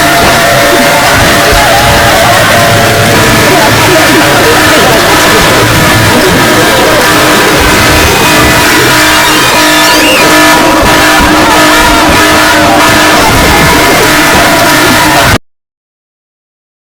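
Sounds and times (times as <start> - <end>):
distorted emergency alert alarm: 0.0 - 15.4.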